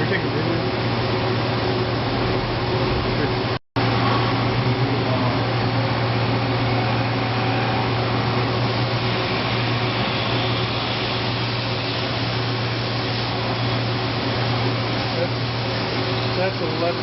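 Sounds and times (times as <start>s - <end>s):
fan-like whir: 0.0s - 17.0s
machining center humming: 0.0s - 17.0s.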